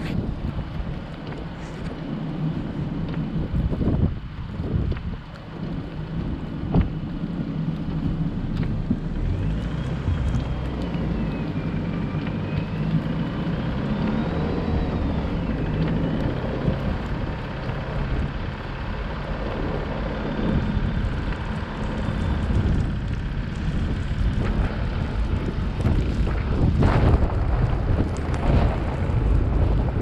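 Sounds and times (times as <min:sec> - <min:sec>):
car engine and road noise: 0:00.0 - 0:30.0
wind: 0:00.0 - 0:30.0.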